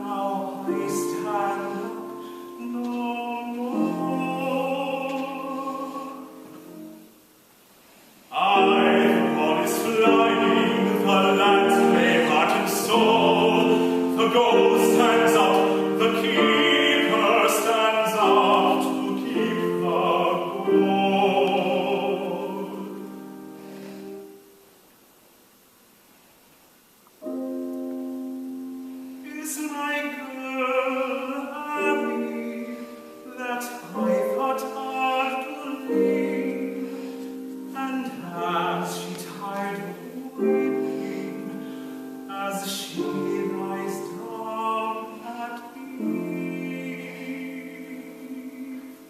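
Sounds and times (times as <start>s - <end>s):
trained singer with vibrato: 0.0s - 6.9s, 8.3s - 23.6s, 29.2s - 49.0s
piano accompaniment: 0.0s - 24.6s, 27.1s - 49.0s.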